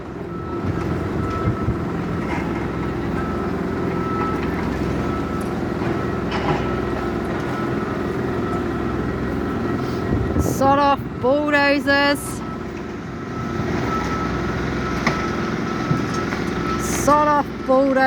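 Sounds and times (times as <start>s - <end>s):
heavy machinery drone: 0.0s - 18.0s.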